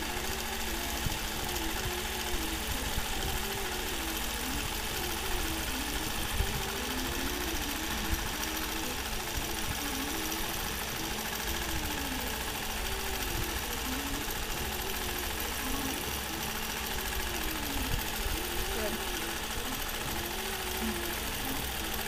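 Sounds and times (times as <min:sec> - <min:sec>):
quilting machine motor hum: 0:00.0 - 0:22.0.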